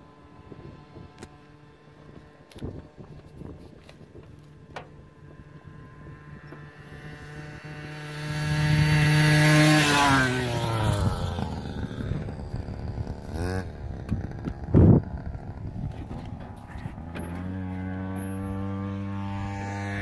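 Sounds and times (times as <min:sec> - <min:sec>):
small two-stroke engine passing by: 0:00.0 - 0:20.0.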